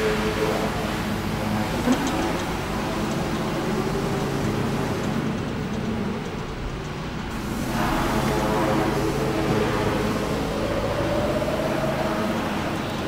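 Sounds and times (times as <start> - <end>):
electric forklift motor hum: 0.0 - 13.0.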